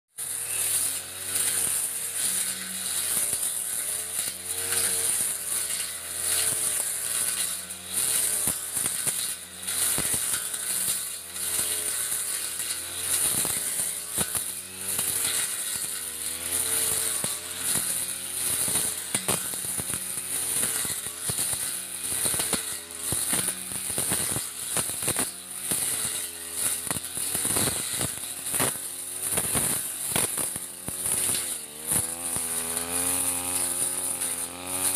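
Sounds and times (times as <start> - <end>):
brush cutter engine running: 0.2 - 34.9
cutting head striking grass: 0.2 - 34.9.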